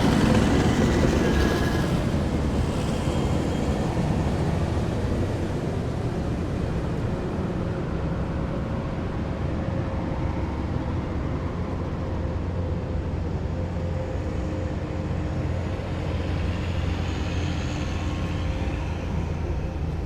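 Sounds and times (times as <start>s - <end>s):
vehicle whine: 0.0s - 20.0s.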